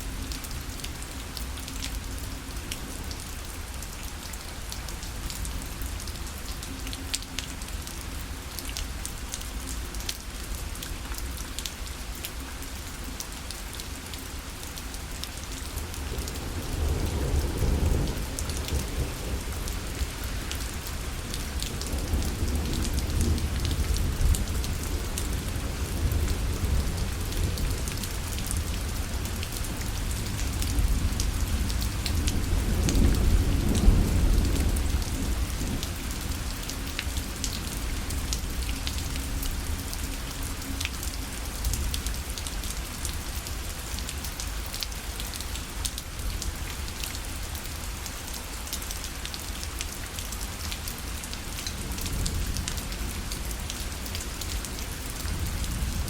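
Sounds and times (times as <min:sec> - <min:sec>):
rain on a fabric parasol: 0:00.0 - 0:56.0.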